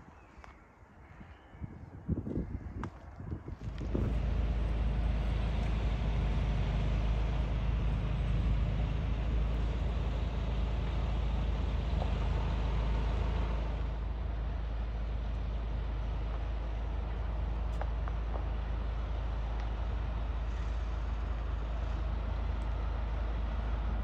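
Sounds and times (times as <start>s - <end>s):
vehicle engine and tyre rumble: 0.0s - 24.0s
road hiss: 3.8s - 24.0s.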